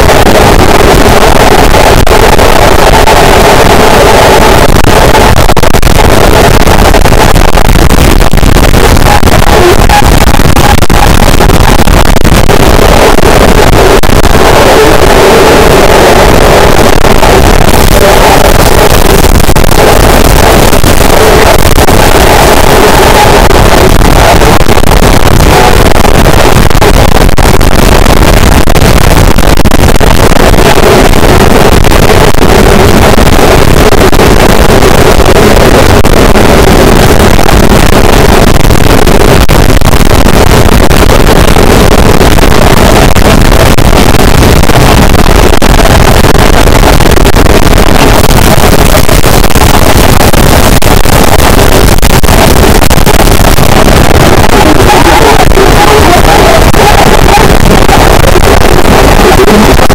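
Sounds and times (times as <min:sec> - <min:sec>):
distorted static noise wall: 0:00.0 - 0:59.9.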